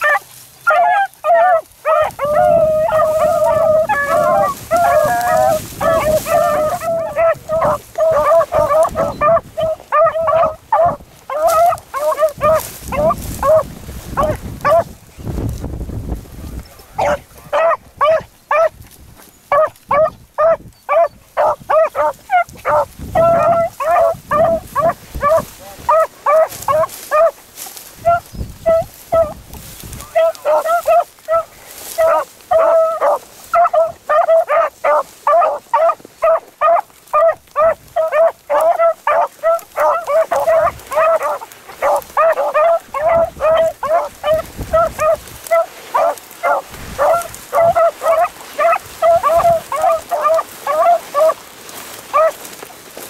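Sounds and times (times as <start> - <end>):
hounds baying: 0.0 - 14.9, 16.6 - 53.0.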